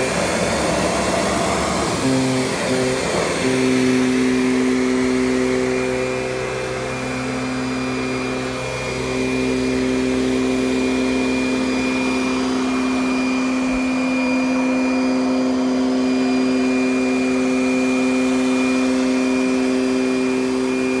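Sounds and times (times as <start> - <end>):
vacuum cleaner humming on carpet: 0.0 - 21.0.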